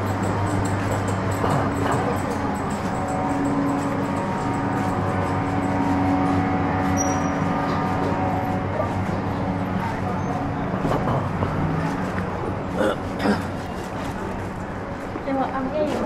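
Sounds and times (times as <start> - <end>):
city street noise: 0.0 - 16.0
vehicle running hum: 0.0 - 16.0.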